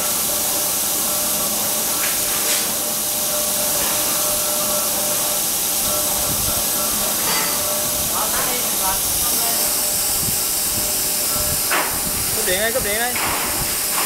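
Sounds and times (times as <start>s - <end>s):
faint steady whine: 0.0s - 14.0s
plasma torch hissing: 0.0s - 14.0s.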